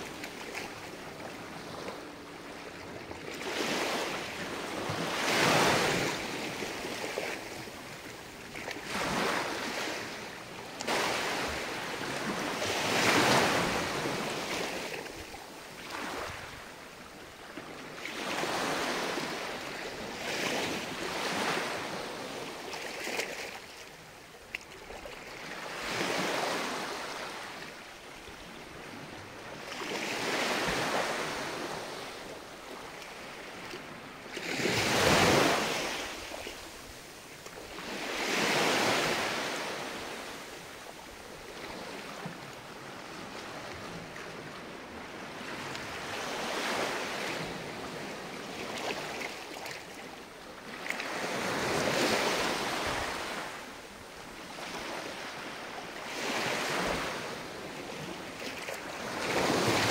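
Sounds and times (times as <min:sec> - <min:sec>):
small waves washing on sandy beach: 0:00.0 - 0:59.9.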